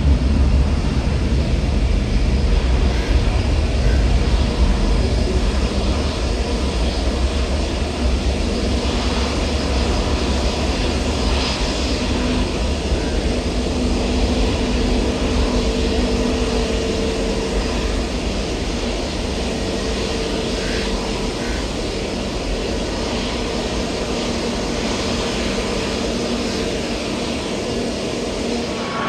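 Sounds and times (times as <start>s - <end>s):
airliner engines rumbling: 0.0s - 29.0s.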